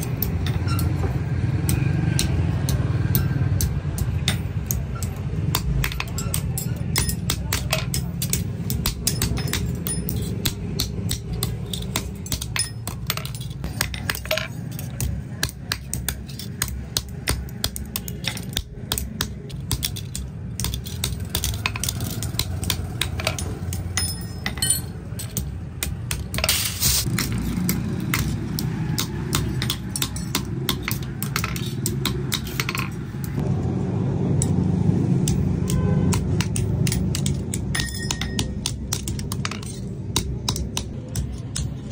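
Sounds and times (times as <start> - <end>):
metal clinks and knocks: 0.0 - 33.4, 35.2 - 41.9.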